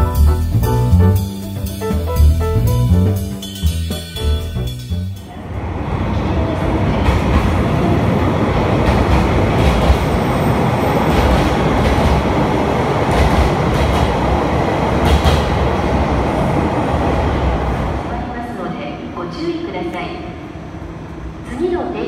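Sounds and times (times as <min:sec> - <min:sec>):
train wheels rumbling on rails: 0:00.0 - 0:18.4.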